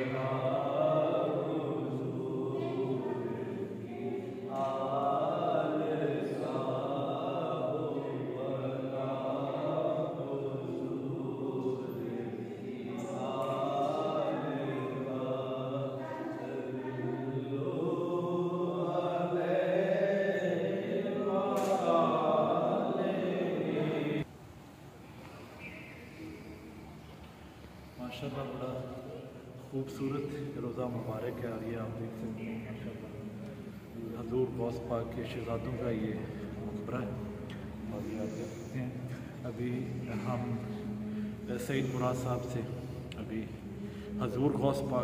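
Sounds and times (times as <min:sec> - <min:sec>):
voices chanting: 0:00.0 - 0:24.3, 0:27.8 - 0:45.0.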